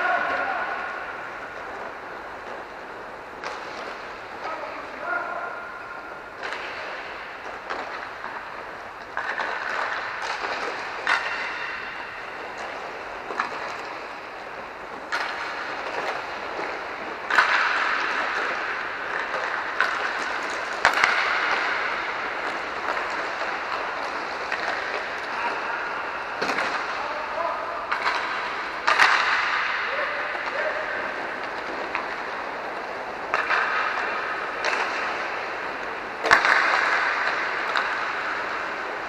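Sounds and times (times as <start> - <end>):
inline skate wheels rolling: 0.0 - 5.1, 5.8 - 39.0
sticks and pucks clacking: 0.0 - 39.0.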